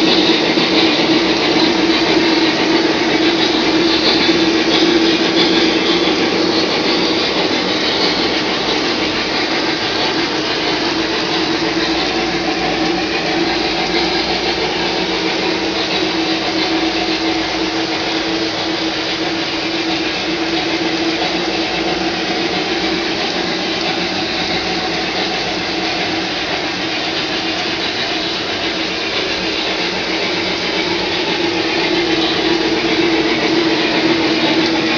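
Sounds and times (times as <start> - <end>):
model train motors whirring: 0.0 - 34.9.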